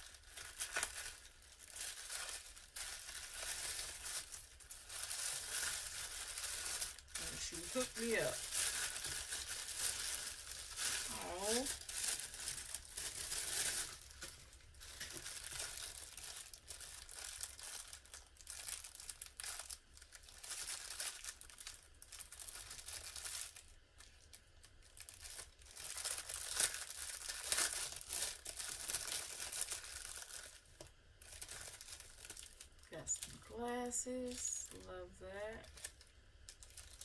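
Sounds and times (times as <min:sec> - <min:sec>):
tissue paper rustling: 0:00.0 - 0:23.7, 0:25.0 - 0:37.0
plastic bag crinkling: 0:00.0 - 0:37.0.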